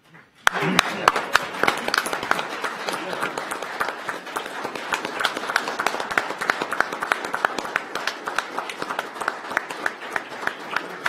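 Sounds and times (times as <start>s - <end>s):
people clapping: 0.4s - 11.0s.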